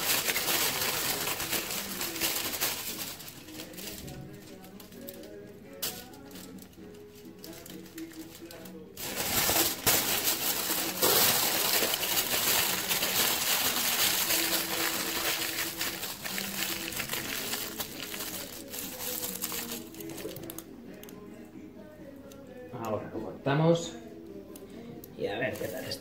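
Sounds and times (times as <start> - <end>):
aluminium foil crinkling: 0.0 - 21.2, 25.4 - 26.0.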